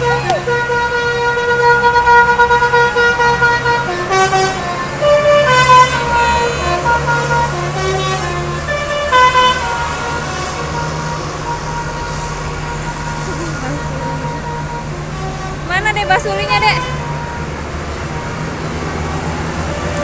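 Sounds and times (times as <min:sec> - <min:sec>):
bus horn playing tune: 0:00.0 - 0:20.0
diesel engine running: 0:00.0 - 0:20.0.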